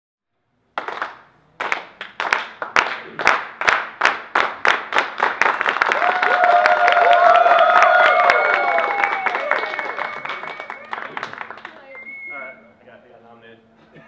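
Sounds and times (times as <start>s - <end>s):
people clapping in rhythm: 0.7s - 12.0s
applause: 0.8s - 12.0s.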